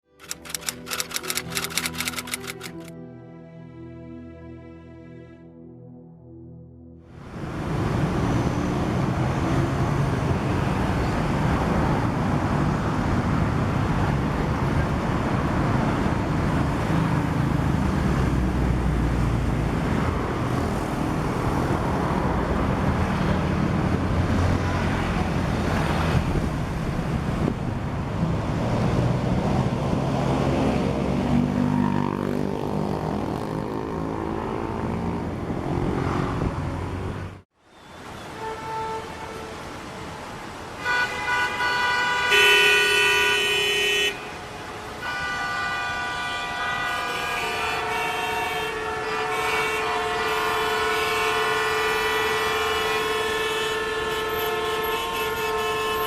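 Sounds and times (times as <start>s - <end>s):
street traffic rumble: 0.0s - 3.0s, 7.1s - 56.0s
vehicles passing: 0.1s - 3.0s, 7.0s - 56.0s.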